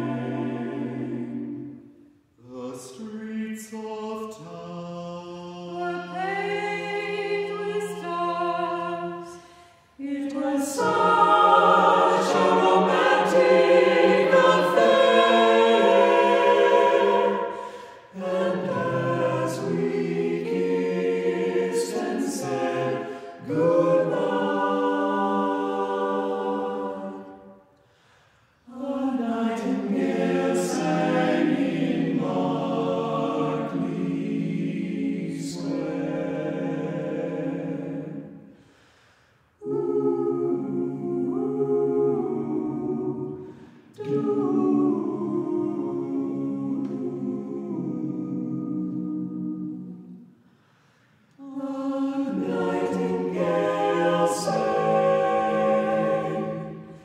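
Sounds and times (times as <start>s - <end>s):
a cappella ensemble singing: 0.0s - 57.0s.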